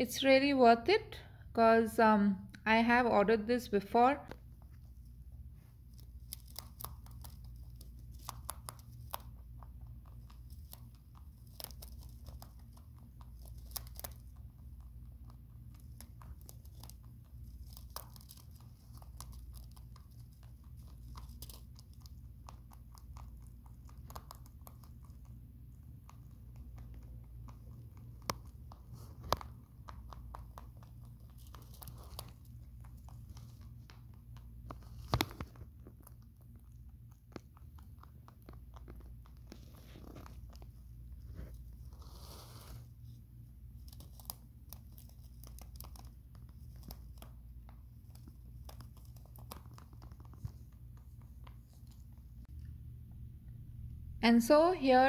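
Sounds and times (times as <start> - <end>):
low steady hum: 0.0 - 55.0
rabbit gnawing on wood: 4.3 - 52.6.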